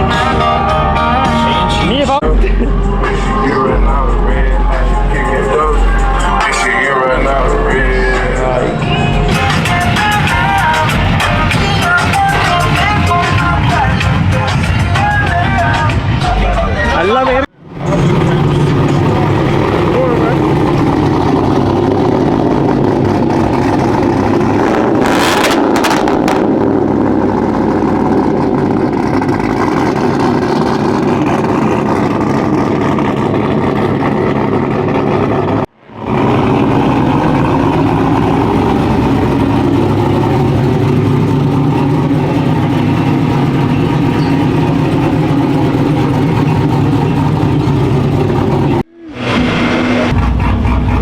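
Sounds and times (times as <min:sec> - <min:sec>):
vehicle engines running: 0:00.0 - 0:51.0.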